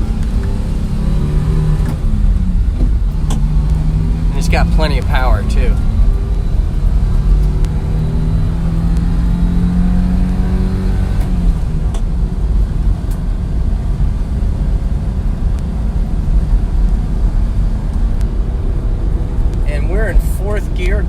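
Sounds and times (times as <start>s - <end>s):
road rumble: 0.0s - 21.0s.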